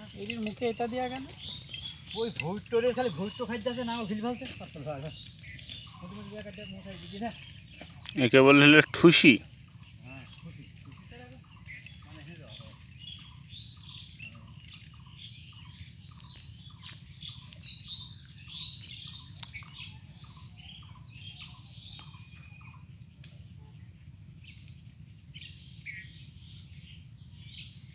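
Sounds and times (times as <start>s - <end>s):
birds chirping and calling: 0.0s - 27.9s.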